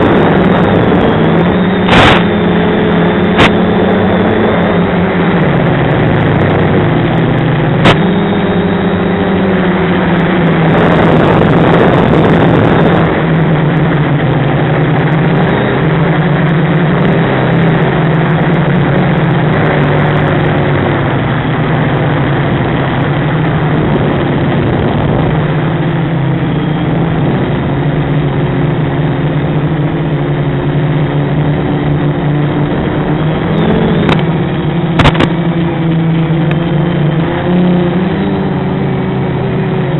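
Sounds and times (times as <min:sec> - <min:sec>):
drone motors whining: 0:00.0 - 0:39.9
loud rushing noise: 0:00.0 - 0:39.9.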